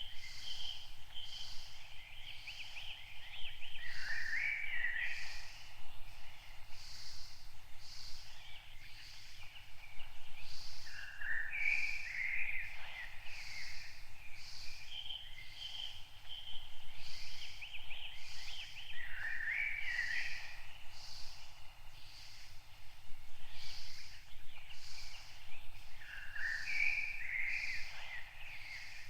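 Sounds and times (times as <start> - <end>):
birds chirping and trilling: 0.0 - 29.0.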